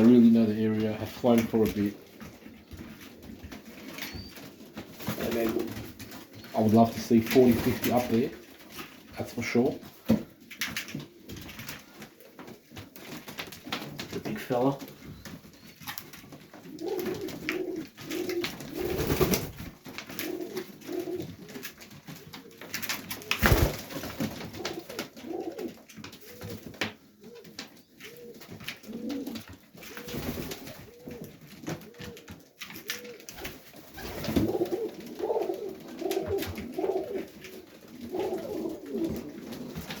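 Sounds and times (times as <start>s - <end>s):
pigeons cooing: 0.0s - 8.5s, 14.8s - 40.0s.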